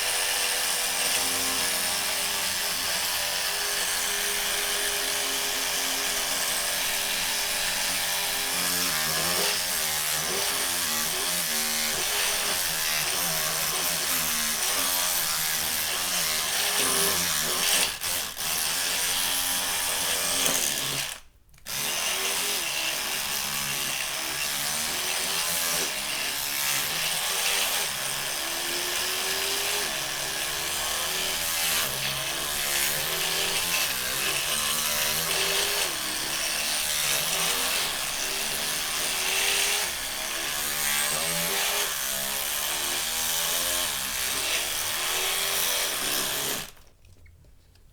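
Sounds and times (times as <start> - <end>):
electric toothbrush buzzing: 0.0 - 46.8.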